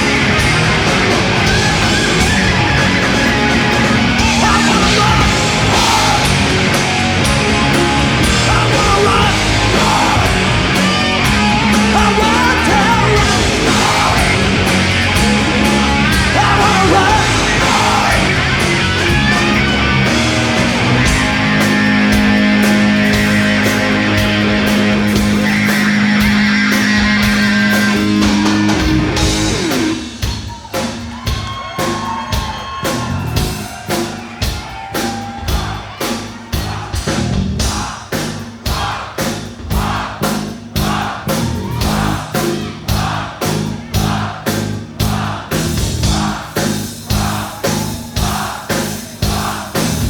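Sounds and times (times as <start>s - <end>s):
pounding drum beat: 0.0s - 50.0s.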